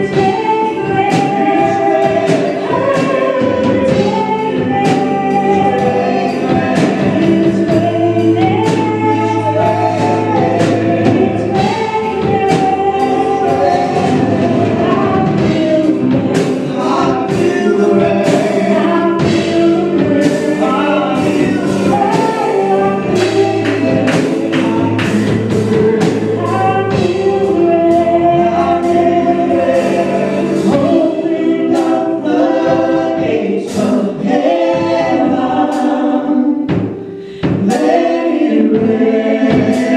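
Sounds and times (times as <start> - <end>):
bass and drums: 0.0 - 39.9
choir singing: 0.0 - 39.9.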